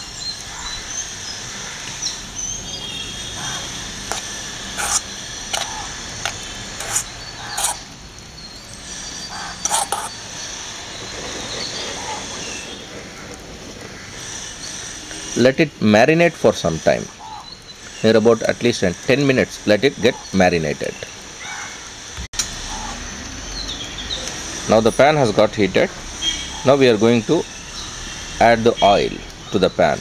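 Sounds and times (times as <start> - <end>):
birds chirping faintly: 0.0 - 30.0.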